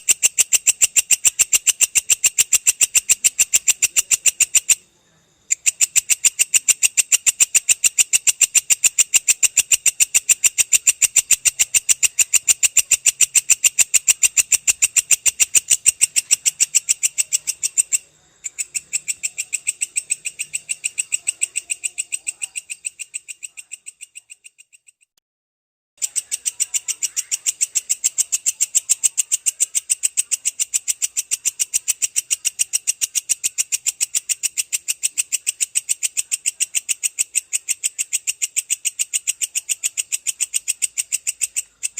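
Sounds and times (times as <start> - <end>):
katydid calling in sharp pulses: 0.0 - 25.2, 26.0 - 41.9.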